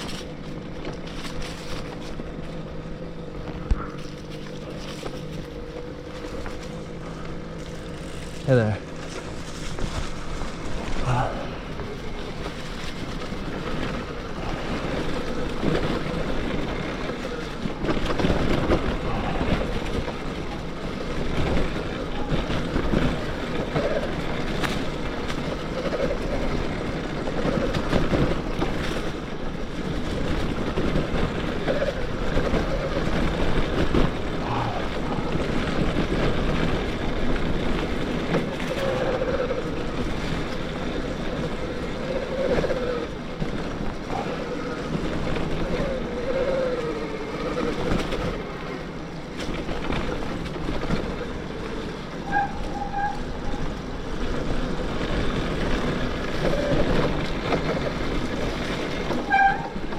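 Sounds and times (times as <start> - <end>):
tyres rolling on dirt trail: 0.0 - 59.9
wind rushing over microphone: 0.0 - 59.9.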